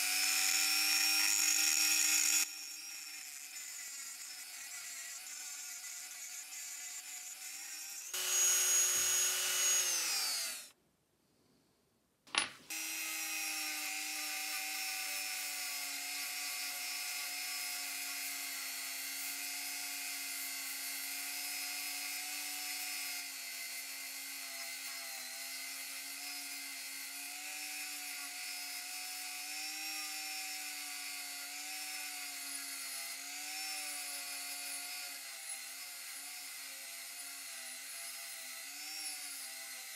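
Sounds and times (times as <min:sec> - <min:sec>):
rotary tool whining: 0:00.0 - 0:10.7, 0:12.7 - 0:39.9.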